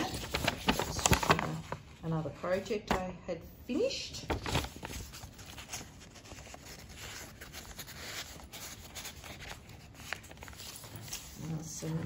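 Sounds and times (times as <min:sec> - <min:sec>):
paper pages rustling: 0:00.0 - 0:02.2, 0:04.1 - 0:12.0.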